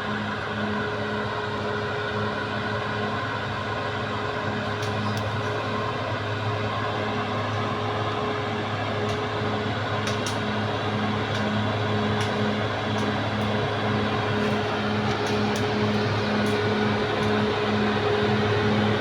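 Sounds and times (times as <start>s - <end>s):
constant whine: 0.0s - 19.0s
bulldozer diesel engine running: 3.2s - 19.0s.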